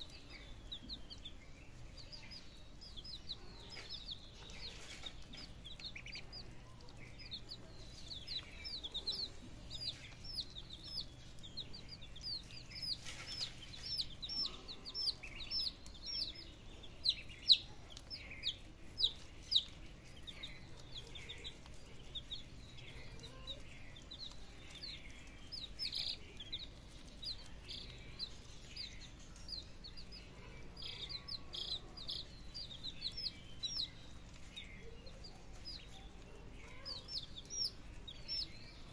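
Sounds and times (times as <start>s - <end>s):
chicks and ducklings peeping: 0.0s - 38.9s.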